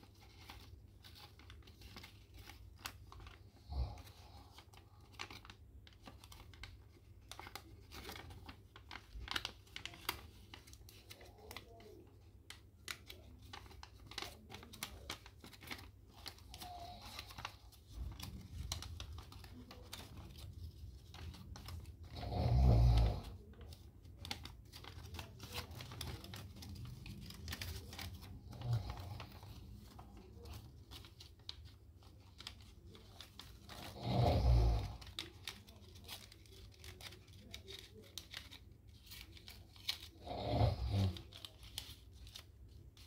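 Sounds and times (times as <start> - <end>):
paper rustling and crackling: 0.0 - 43.0.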